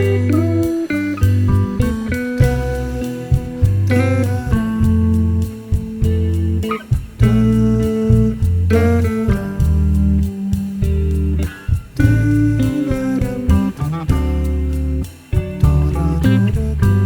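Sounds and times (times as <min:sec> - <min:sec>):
held bass notes: 0:00.0 - 0:17.0
plucked guitar: 0:00.0 - 0:17.0.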